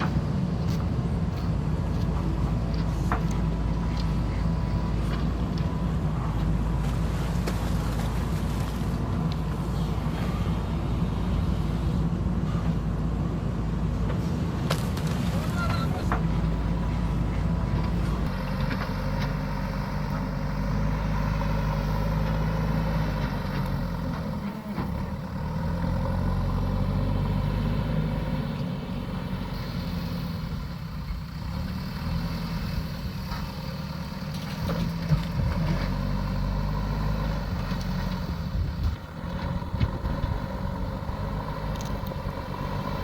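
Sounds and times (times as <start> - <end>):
backhoe diesel engine running: 0.0 - 43.0.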